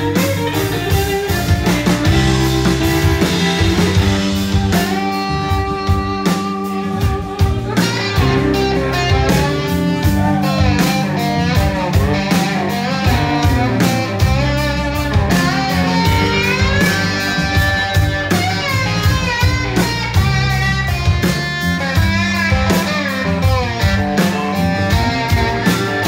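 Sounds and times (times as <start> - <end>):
drum kit steady beat: 0.0 - 26.0
lead electric guitar bending notes: 0.0 - 26.0
rhythm guitar: 0.0 - 26.0.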